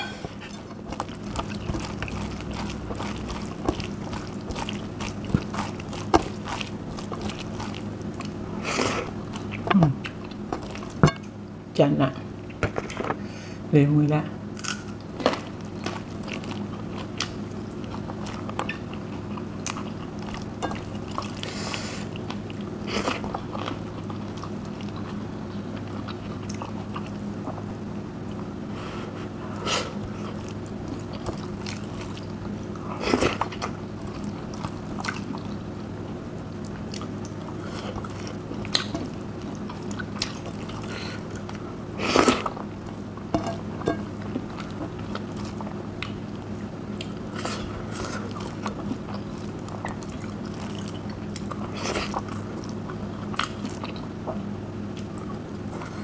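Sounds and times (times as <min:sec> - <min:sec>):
person chewing food: 0:00.0 - 0:11.3, 0:14.8 - 0:56.0
steady low hum: 0:00.0 - 0:56.0.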